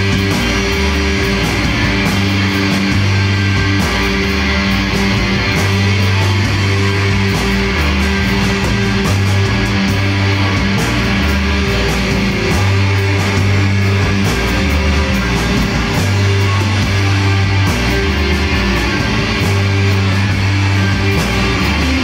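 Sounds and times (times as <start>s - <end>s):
drums: 0.0s - 22.0s
electric guitars: 0.0s - 22.0s.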